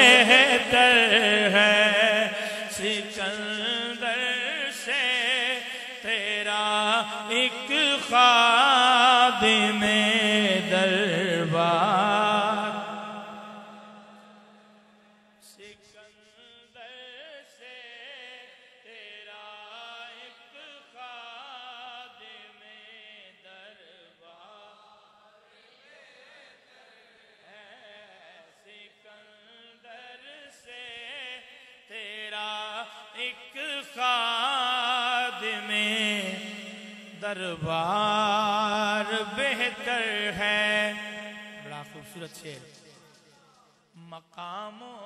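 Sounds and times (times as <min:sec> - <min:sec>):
lead reciter reciting: 0:00.0 - 0:45.0.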